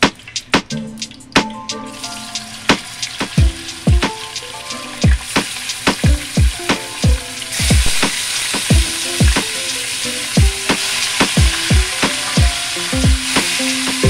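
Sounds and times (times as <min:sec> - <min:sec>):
background music with bass beat: 0:00.0 - 0:14.0
fish sizzling in hot oil: 0:01.9 - 0:14.0.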